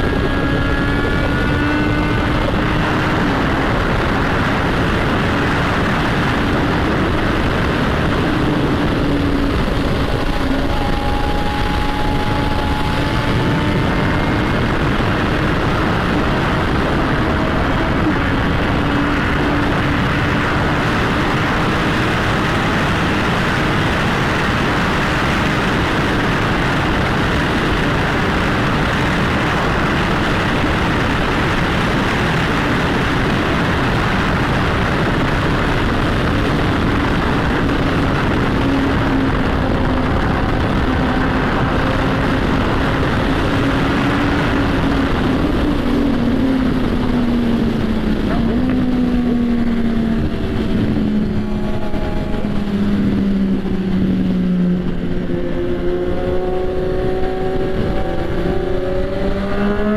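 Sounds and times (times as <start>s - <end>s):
motorcycle exhaust note: 0.0s - 59.9s
wind rushing over microphone: 0.0s - 59.9s.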